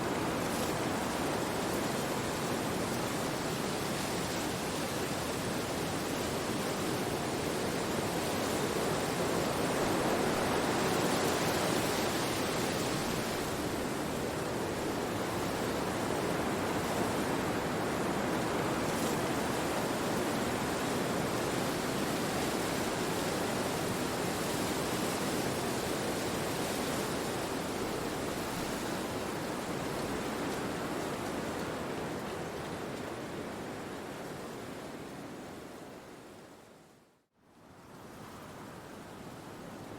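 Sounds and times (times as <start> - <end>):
wind rushing through trees: 0.0 - 39.9.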